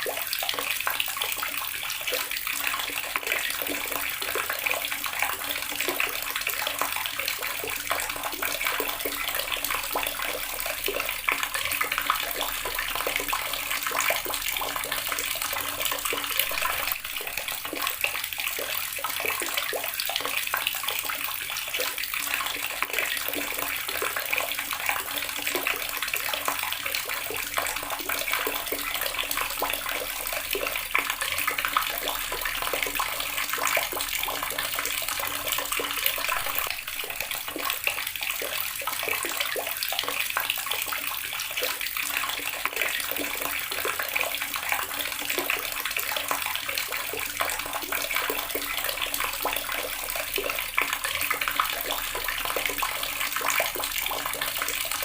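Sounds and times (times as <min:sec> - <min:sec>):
tap water splashing into basin: 0:00.0 - 0:55.0.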